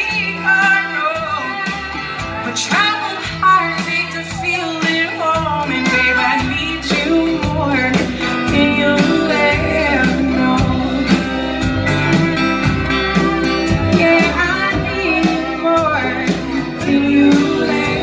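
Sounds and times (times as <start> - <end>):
woman singing: 0.0 - 11.7, 13.4 - 18.0
bass: 0.0 - 18.0
drum kit steady beat: 0.0 - 18.0
guitar: 0.0 - 18.0
violin: 0.0 - 18.0.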